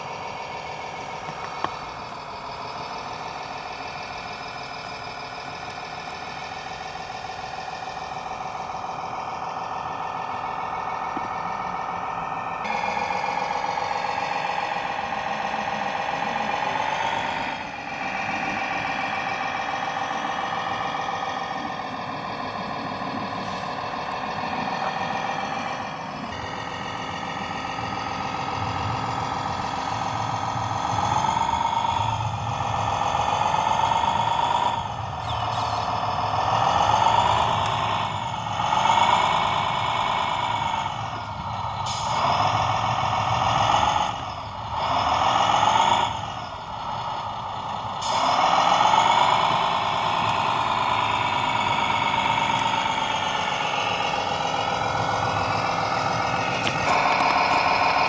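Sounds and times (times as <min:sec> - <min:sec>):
simulated diesel truck engine: 0:00.0 - 0:58.0.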